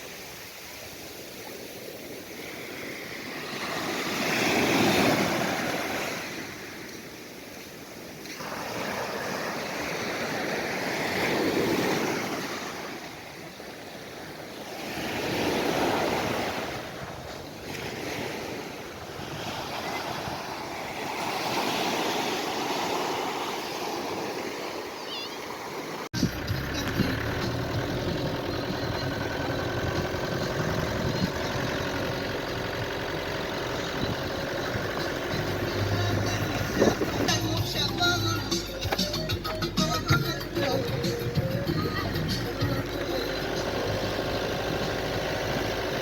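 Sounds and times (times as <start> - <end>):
sea waves breaking on shore: 0.0 - 46.0.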